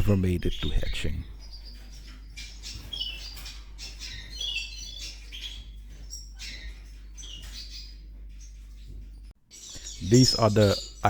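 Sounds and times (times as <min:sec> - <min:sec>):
canaries chirping: 0:00.0 - 0:11.0
low steady hum: 0:00.0 - 0:11.0.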